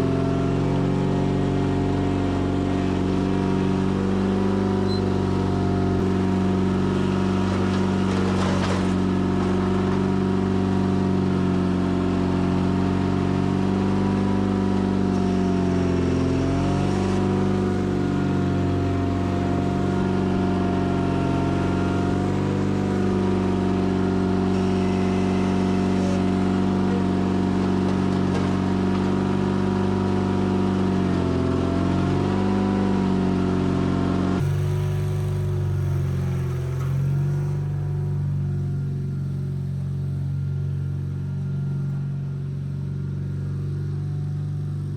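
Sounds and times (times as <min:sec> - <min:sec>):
garden tractor engine running: 0:00.0 - 0:32.9, 0:33.6 - 0:44.9.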